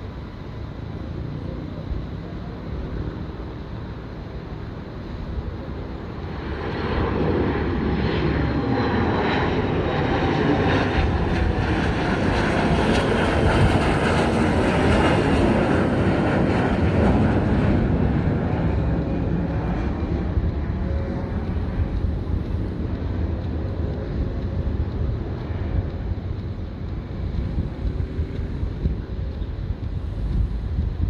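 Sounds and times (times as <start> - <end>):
propeller plane engine: 0.0 - 31.0.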